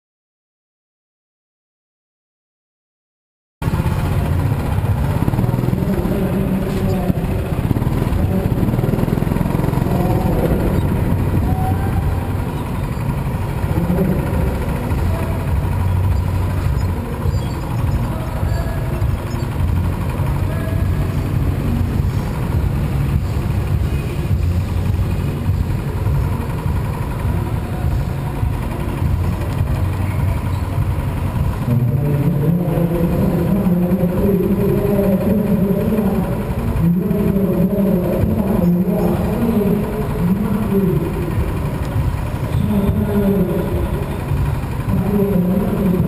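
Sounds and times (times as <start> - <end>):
go-kart engine accelerating: 3.6 - 46.0.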